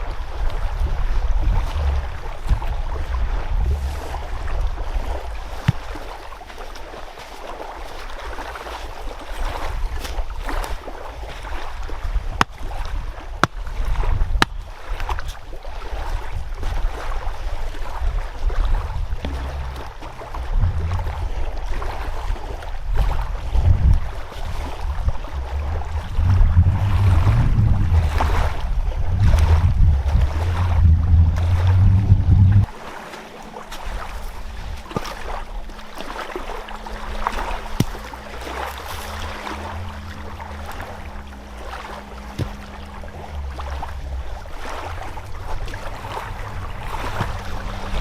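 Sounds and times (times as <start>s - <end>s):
water lapping at the shore: 0.0s - 48.0s
wind rumbling on microphone: 0.0s - 48.0s.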